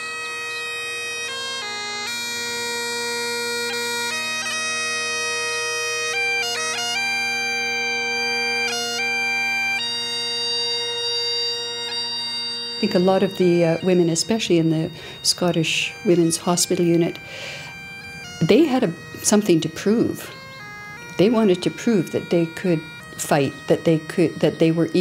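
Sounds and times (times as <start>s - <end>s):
bagpipe playing: 0.0s - 25.0s.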